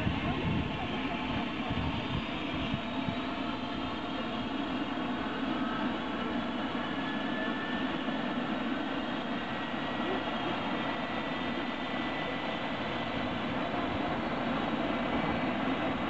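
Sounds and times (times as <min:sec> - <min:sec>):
helicopter rotor rushing: 0:00.0 - 0:16.0
helicopter turbine whine: 0:00.0 - 0:16.0.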